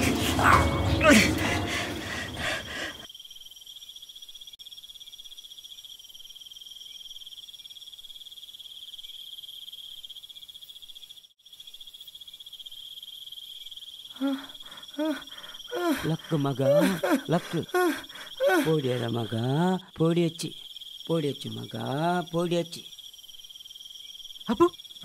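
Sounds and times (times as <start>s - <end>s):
crickets trilling: 0.5s - 25.0s.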